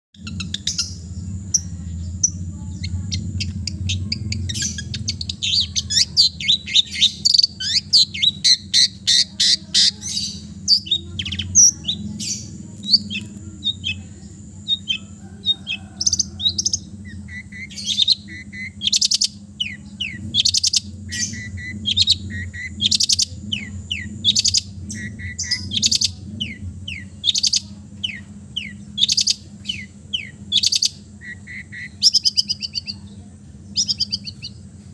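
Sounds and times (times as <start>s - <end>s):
bird singing chattering notes: 0.2s - 34.8s
steady low hum: 0.2s - 34.9s.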